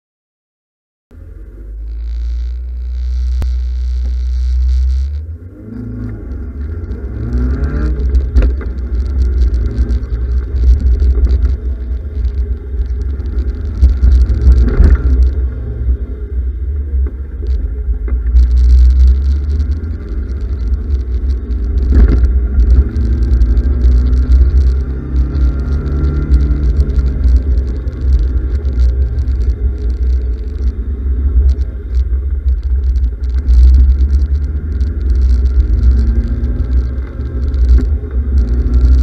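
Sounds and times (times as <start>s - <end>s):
car engine accelerating hard: 1.2s - 39.0s.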